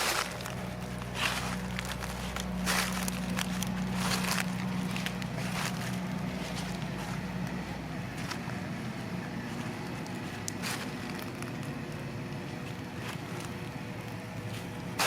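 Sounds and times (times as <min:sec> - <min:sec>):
small electric motor humming: 0:00.0 - 0:15.0
tyres crackling on rough ground: 0:00.0 - 0:15.0.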